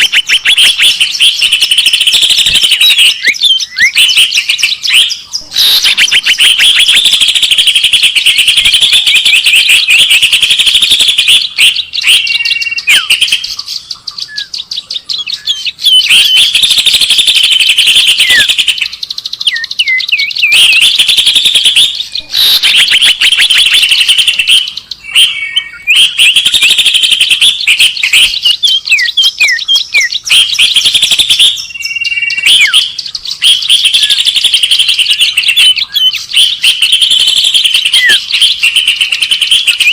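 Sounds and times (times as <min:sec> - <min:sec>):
rapid bird chirping and chattering: 0:00.0 - 0:39.9
repeated bird call notes: 0:00.0 - 0:39.9.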